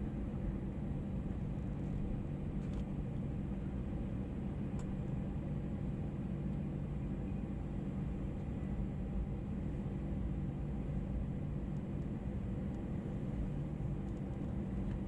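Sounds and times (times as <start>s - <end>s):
airplane cabin rumble and hum: 0.0s - 15.0s.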